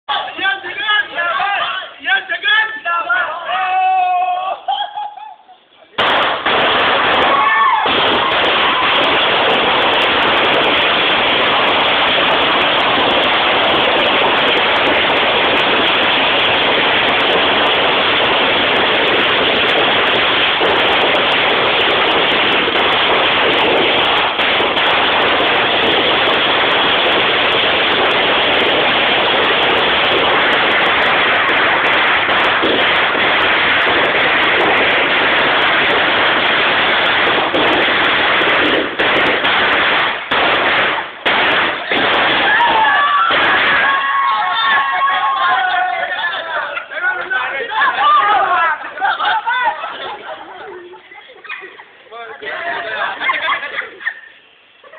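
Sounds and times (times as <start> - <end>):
firecrackers crackling: 0.1 - 3.7, 4.7 - 54.9.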